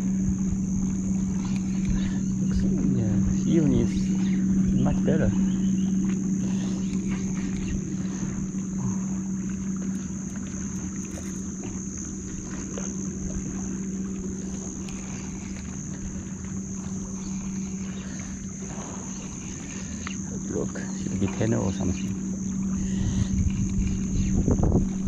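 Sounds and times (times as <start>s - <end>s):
high insect drone: 0.0s - 25.0s
steady low hum: 0.0s - 25.0s
wind rumbling on microphone: 0.0s - 25.0s.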